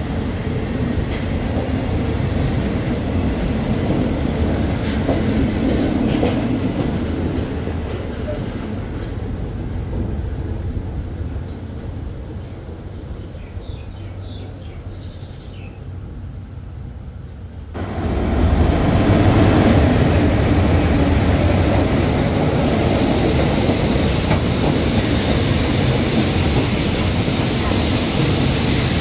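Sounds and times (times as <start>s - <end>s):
train wheel noise: 0.0s - 14.7s, 15.9s - 29.0s
diesel locomotive rumbling past: 0.0s - 29.0s
distant train low rumble: 0.0s - 29.0s.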